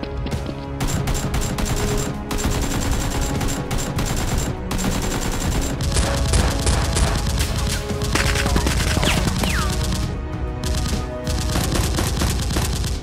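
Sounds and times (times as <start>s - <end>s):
background music: 0.0s - 13.0s
automatic gunfire: 0.8s - 13.0s.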